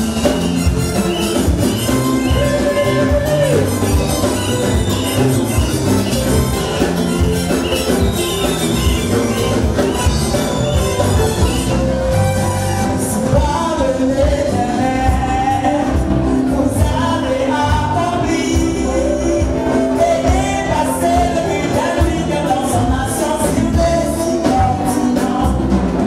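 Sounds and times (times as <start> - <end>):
drums: 0.0 - 26.0
gospel song with band: 0.0 - 26.0.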